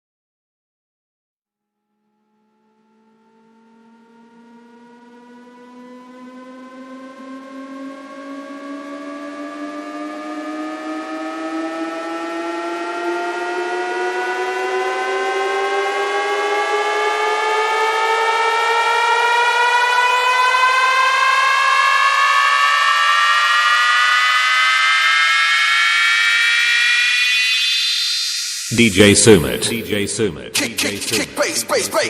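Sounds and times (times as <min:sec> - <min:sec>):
rising synth sweep: 0:02.6 - 0:32.0.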